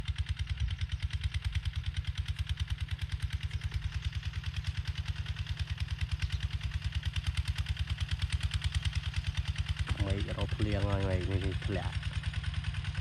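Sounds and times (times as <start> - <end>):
diesel engine chugging: 0.0 - 13.0.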